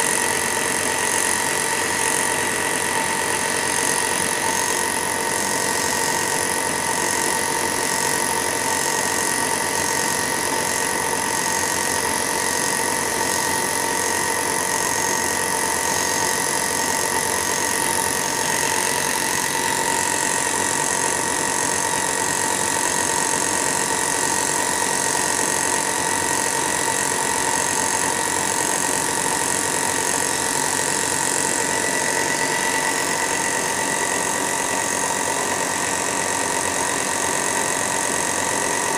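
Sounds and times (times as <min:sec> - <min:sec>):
air compressor motor hum: 0:00.0 - 0:38.9.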